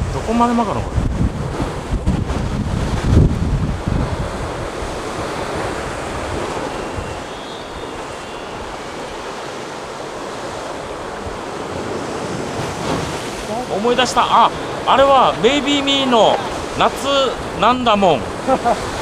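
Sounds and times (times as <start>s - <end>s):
surf washing against rocks: 0.0s - 19.0s
wind buffeting microphone: 0.0s - 19.0s.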